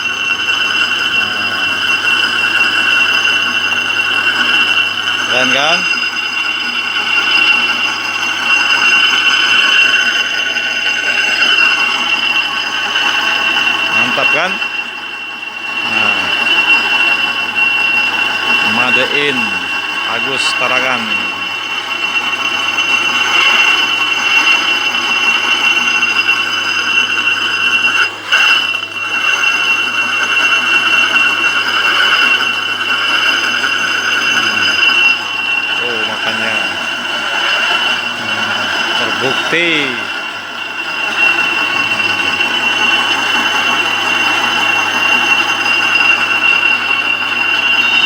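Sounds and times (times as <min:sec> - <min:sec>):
machine whine and hum: 0:00.0 - 0:48.0.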